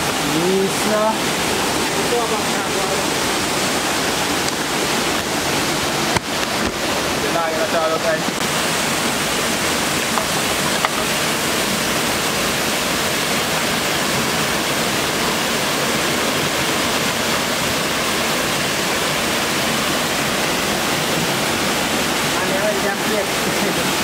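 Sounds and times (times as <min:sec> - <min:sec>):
river water rushing over falls: 0:00.0 - 0:24.0.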